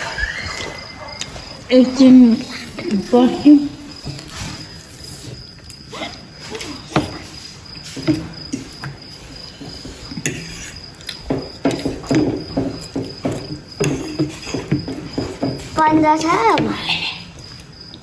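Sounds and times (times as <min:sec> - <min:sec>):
cricket trilling: 0:00.0 - 0:18.0
people eating and chewing: 0:00.0 - 0:18.0.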